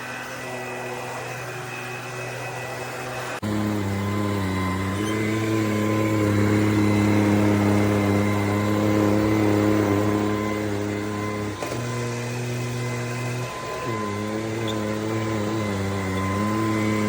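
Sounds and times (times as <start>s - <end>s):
stick vacuum motor hum: 0.0s - 17.0s.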